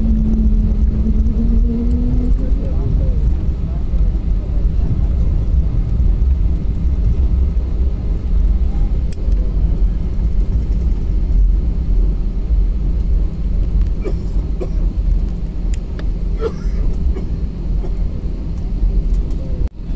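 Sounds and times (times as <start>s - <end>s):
jet airliner taxiing rumble: 0.0s - 19.9s.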